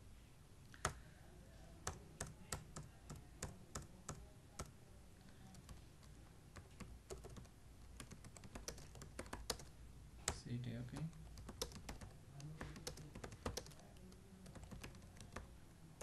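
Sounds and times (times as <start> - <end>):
keyboard typing: 1.8 - 4.7, 5.3 - 16.0.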